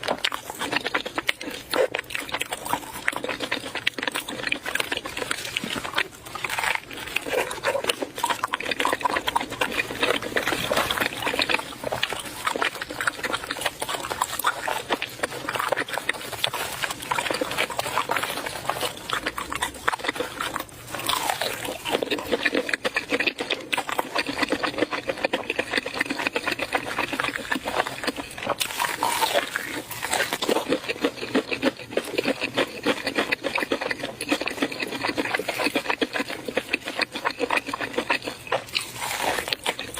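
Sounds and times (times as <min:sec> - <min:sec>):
wet chewing and lip-smacking: 0:00.0 - 0:39.9.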